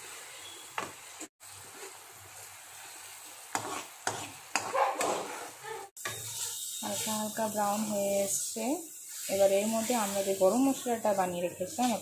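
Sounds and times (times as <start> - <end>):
paste sizzling in oil: 0.0 - 12.0
spatula scraping a pan: 0.0 - 12.0.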